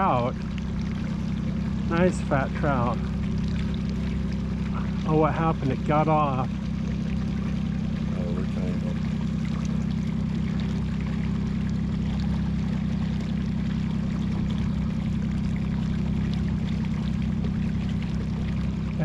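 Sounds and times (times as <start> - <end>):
outboard motor running: 0.0 - 19.0
water washing along hull: 0.0 - 19.0.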